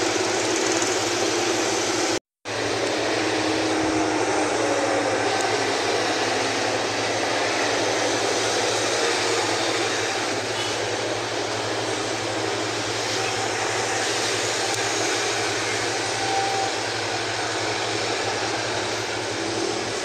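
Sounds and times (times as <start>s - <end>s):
jet engines rushing: 0.0s - 20.0s.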